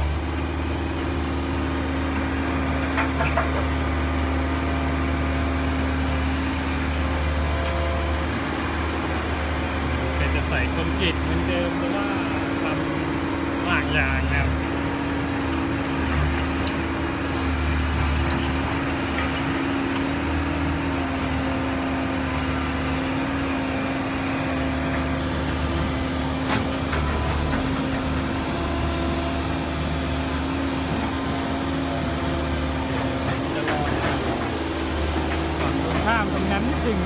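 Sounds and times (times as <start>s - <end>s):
excavator diesel engine droning: 0.0s - 37.0s.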